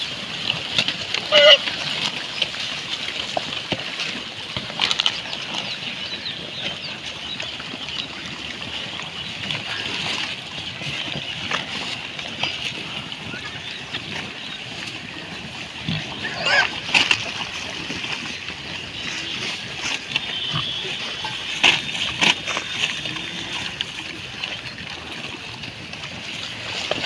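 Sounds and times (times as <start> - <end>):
pigs chewing and snuffling: 0.0 - 27.0.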